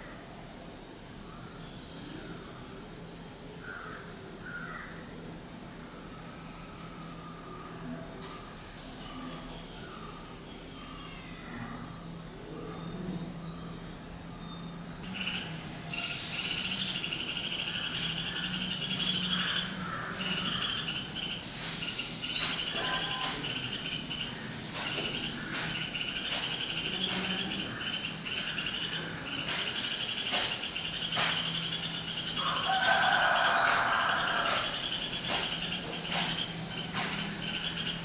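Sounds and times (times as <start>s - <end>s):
birds chirping: 1.3s - 38.0s.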